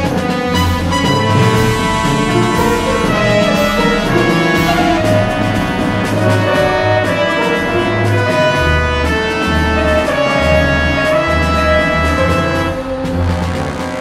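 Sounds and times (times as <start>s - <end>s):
background music with sustained chords: 0.0s - 14.0s.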